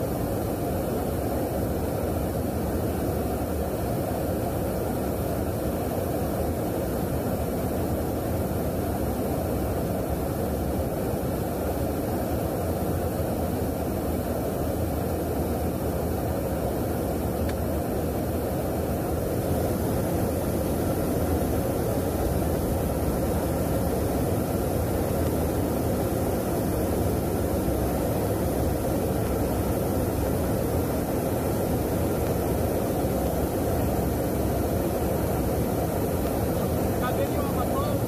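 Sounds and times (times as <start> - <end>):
aircraft engines and slipstream rushing: 0.0 - 38.0.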